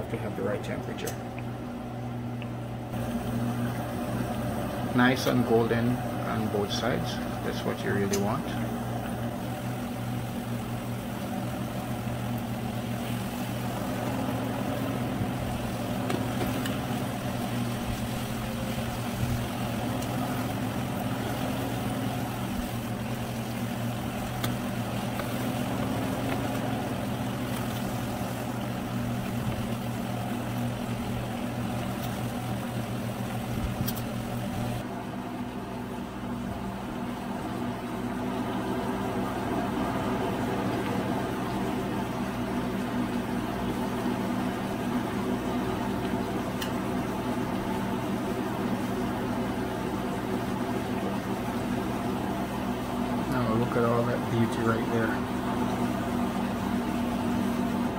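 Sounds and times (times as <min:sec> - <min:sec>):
plantain frying in oil: 0:02.6 - 0:34.9, 0:35.5 - 0:57.9.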